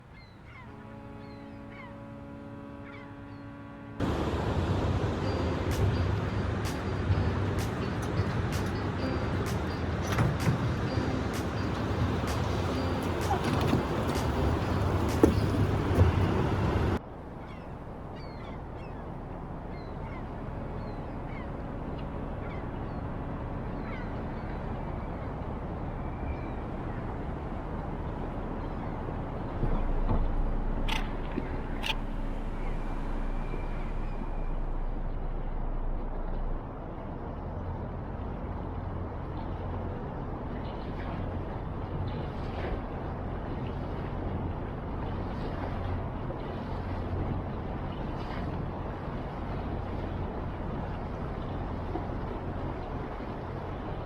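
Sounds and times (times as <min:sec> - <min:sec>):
motorboat engine rumble: 0:00.0 - 0:54.0
water noise: 0:00.0 - 0:54.0
steady background noise: 0:04.0 - 0:54.0.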